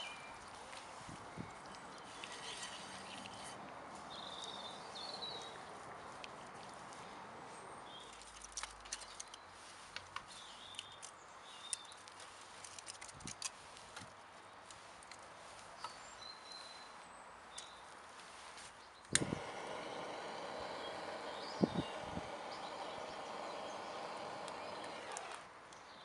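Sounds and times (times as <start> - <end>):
faint birds chirping: 0.0 - 12.6, 13.7 - 26.0.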